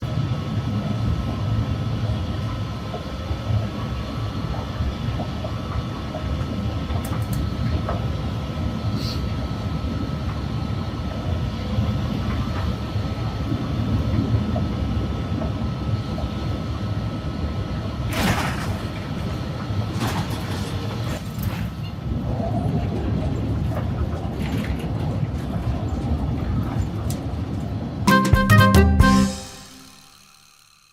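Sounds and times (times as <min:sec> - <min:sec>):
airplane cabin low rumble: 0:00.0 - 0:29.2.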